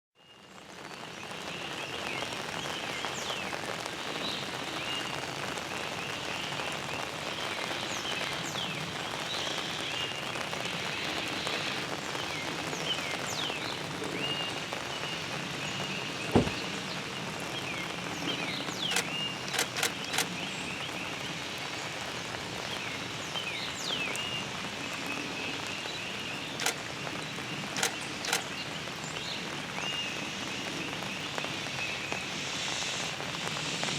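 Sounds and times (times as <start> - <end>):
steady rain falling: 0.2 - 33.9.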